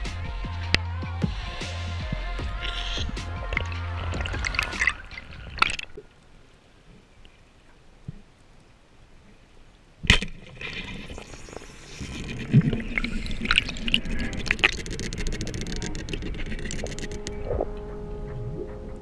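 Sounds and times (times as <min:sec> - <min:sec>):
rushing water: 0:02.5 - 0:18.8.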